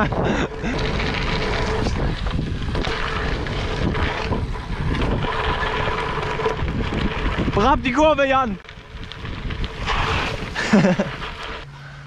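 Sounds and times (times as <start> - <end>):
wind rushing over microphone: 0.0 - 11.6
tyres rolling on gravel: 0.0 - 11.8.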